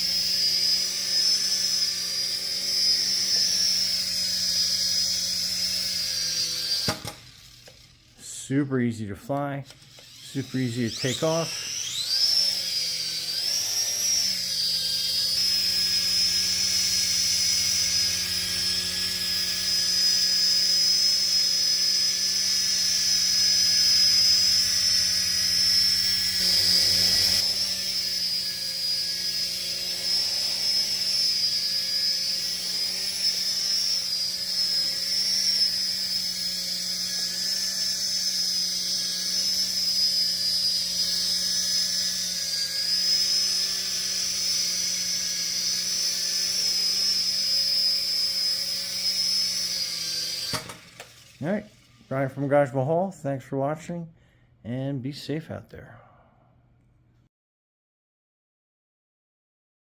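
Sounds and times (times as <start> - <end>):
toy helicopter motors whining: 0.0 - 53.0.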